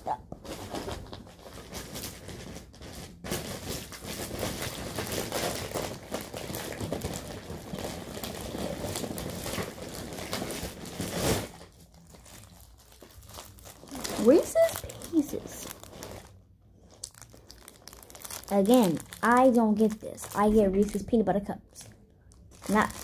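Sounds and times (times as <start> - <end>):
plastic packaging crinkling: 0.2 - 23.0.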